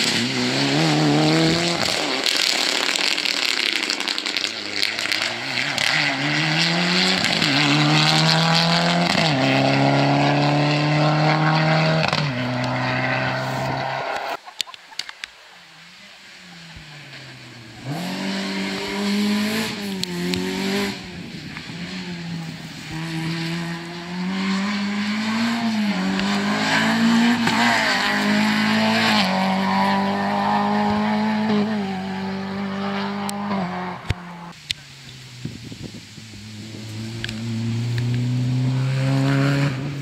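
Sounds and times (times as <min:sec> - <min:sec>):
rally car engine revving: 0:00.0 - 0:14.4, 0:15.8 - 0:40.0.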